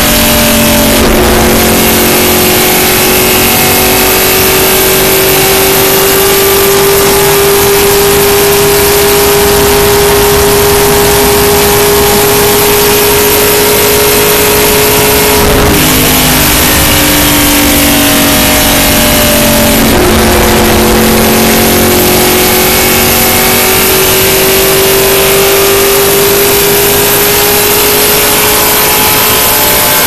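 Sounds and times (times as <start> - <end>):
car engine at full throttle: 0.0 - 30.0
wind and road noise: 0.0 - 30.0.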